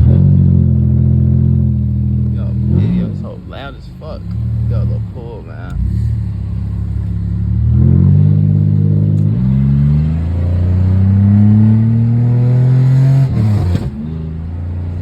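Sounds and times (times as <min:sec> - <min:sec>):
loud car exhaust accelerating: 0:00.0 - 0:15.0.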